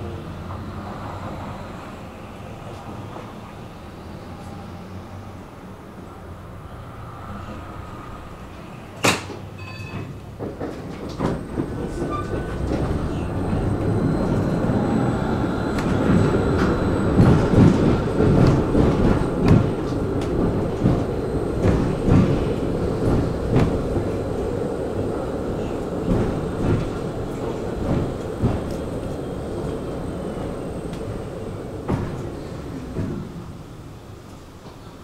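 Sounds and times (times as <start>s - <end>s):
tram running on rails: 0.0s - 35.0s.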